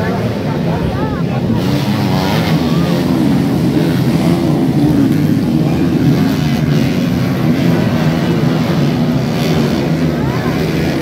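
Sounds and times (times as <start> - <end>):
racing motorcycle engines droning: 0.0 - 11.0.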